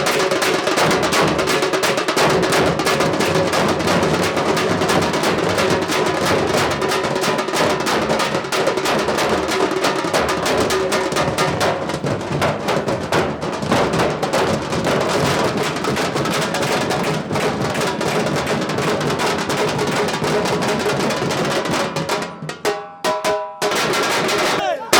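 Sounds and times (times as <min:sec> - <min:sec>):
drum troupe beating fast rhythm: 0:00.0 - 0:24.9.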